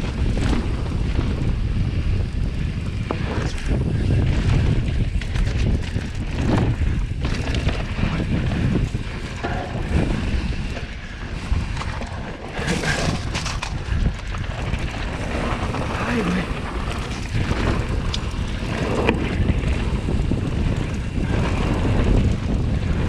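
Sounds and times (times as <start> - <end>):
bike knocks and rattles: 0.0 - 23.0
tyres rolling on loose ground: 0.0 - 23.0
wind buffeting microphone: 0.0 - 23.0
scraping rush: 3.3 - 22.3.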